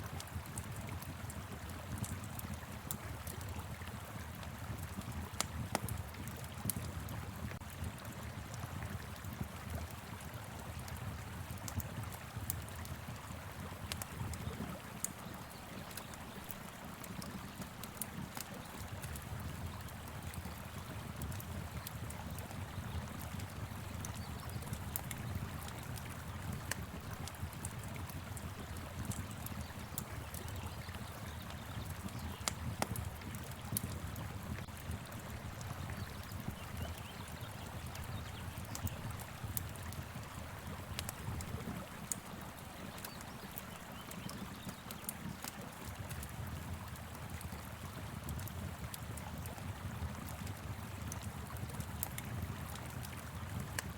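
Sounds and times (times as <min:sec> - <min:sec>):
fire crackling and popping: 0:00.1 - 0:53.9.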